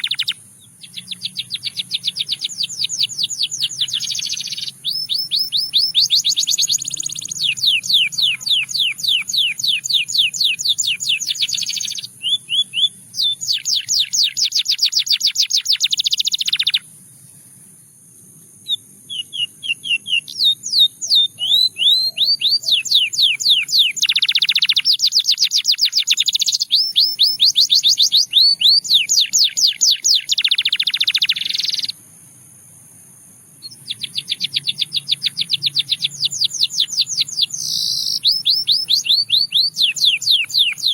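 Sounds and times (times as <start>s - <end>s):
canary singing trills: 0.0s - 17.4s, 18.6s - 32.0s, 33.6s - 40.9s.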